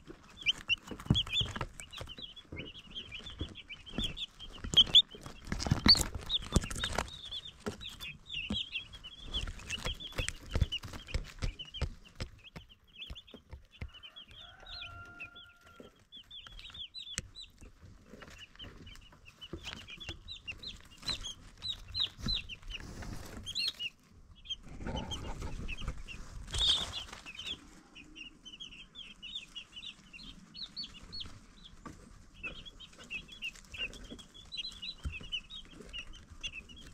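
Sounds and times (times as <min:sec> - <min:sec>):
rustling: 0:00.0 - 0:12.6, 0:14.9 - 0:28.0, 0:29.1 - 0:36.9
baby chicks peeping: 0:00.0 - 0:36.9.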